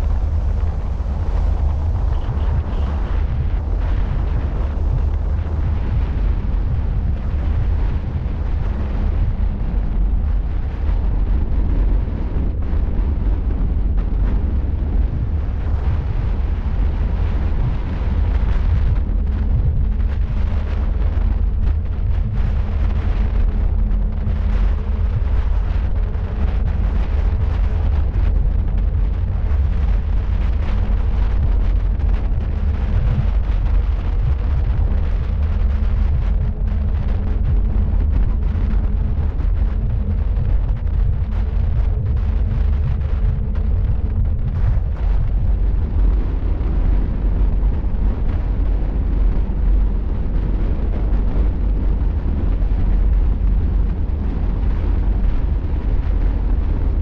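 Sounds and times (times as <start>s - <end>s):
faint steady hum: 0.0s - 57.0s
wind buffeting microphone: 0.0s - 57.0s.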